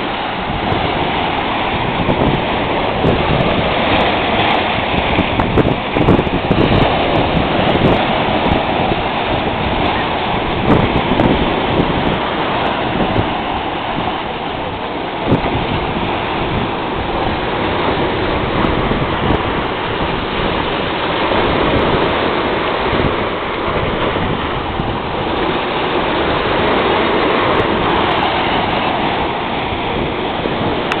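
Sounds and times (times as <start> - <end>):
waves breaking over rocks: 0.0 - 31.0.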